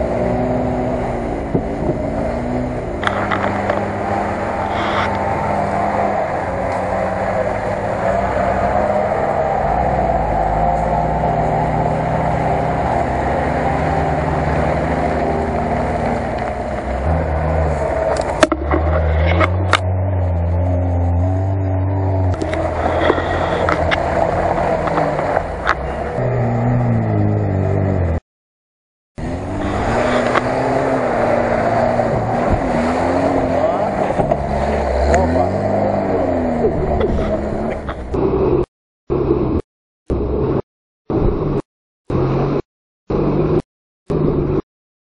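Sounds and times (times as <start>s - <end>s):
car engines revving in mud: 0.0s - 28.2s, 29.2s - 40.6s, 41.4s - 44.6s.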